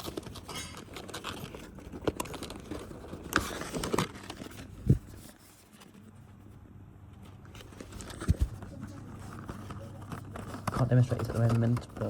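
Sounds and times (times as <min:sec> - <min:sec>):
packaging crinkling: 0:00.0 - 0:06.1, 0:07.3 - 0:12.0.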